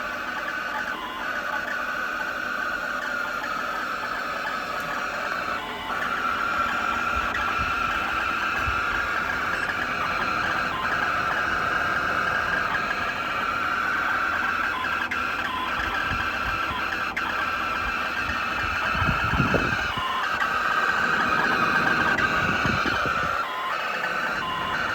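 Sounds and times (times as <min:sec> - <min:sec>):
air conditioner high-pitched whine: 0:00.0 - 0:24.9.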